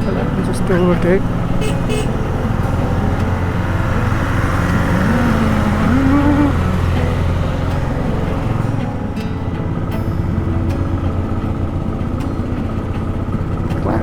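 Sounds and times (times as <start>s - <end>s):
motorcycle engine running hard: 0.0s - 14.0s.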